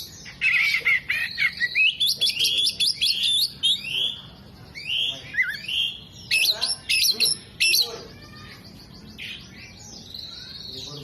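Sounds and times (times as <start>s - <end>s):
bird singing whistles and chirps: 0.0s - 11.0s.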